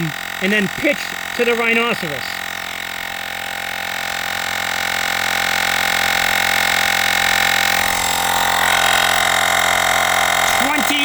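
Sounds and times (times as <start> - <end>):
air compressor whining drone: 0.0 - 11.0.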